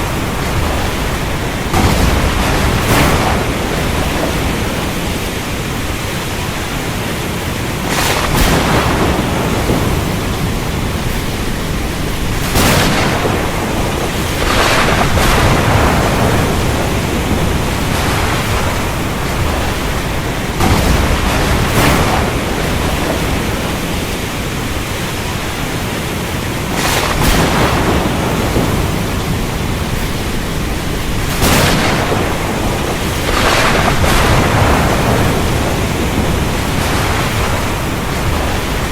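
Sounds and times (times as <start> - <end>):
thunder claps: 0.0 - 7.0, 7.7 - 25.5, 26.6 - 38.9
heavy rain: 0.0 - 38.9.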